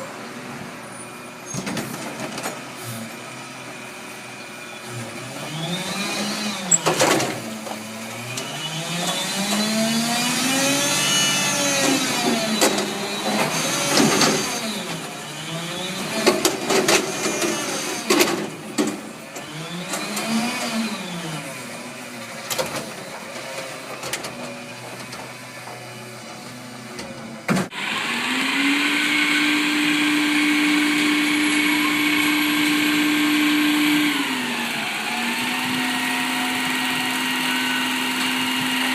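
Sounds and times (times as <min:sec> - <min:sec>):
diesel engine revving: 0:02.7 - 0:24.0, 0:27.6 - 0:38.9
hydraulics working: 0:04.4 - 0:38.9.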